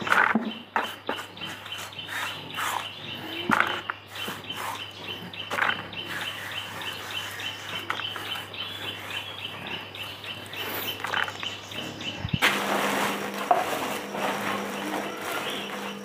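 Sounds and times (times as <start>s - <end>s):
bird chirping: 0.0s - 16.0s
rustles: 0.0s - 16.0s.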